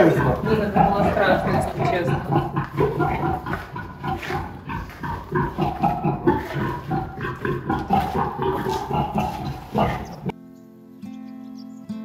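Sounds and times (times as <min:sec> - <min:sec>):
pig grunting: 0:00.0 - 0:10.3.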